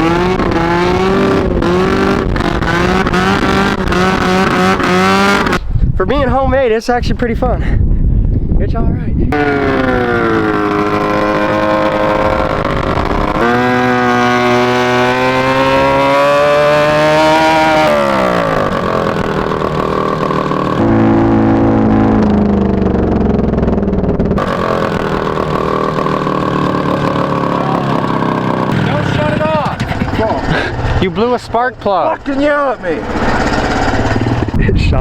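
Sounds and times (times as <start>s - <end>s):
go-kart engine accelerating: 0.0s - 5.6s, 9.3s - 34.8s.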